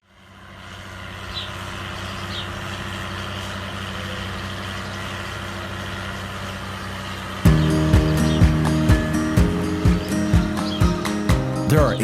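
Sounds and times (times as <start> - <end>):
heavy machinery engine hum: 0.1 - 11.0.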